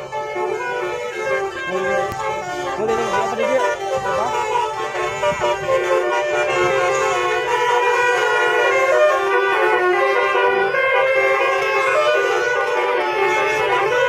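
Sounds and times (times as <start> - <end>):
musical air horns playing melodies: 0.0 - 14.0.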